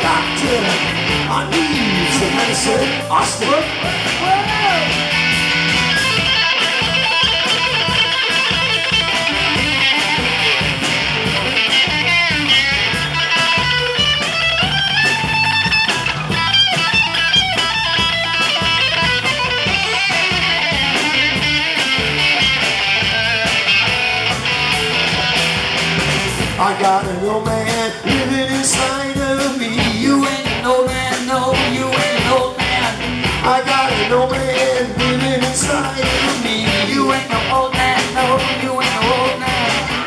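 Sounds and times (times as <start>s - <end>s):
bass: 0.0s - 40.0s
drums: 0.0s - 40.0s
electric guitar: 0.0s - 40.0s.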